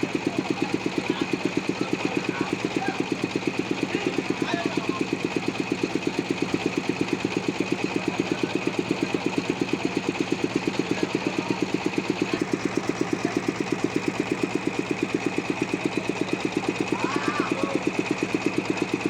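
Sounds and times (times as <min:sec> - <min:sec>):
sawmill engine pulsing: 0:00.0 - 0:19.0.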